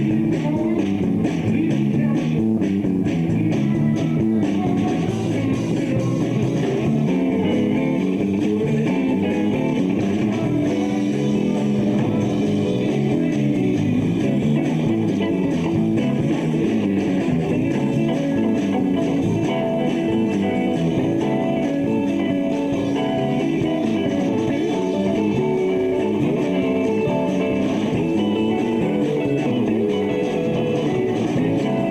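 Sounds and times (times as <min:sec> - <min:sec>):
bass guitar: 0:00.0 - 0:31.9
drums: 0:00.0 - 0:31.9
guitars: 0:00.0 - 0:31.9.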